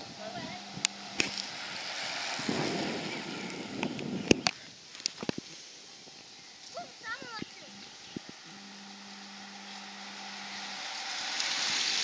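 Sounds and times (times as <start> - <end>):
racing bicycles passing: 0.0 - 12.0.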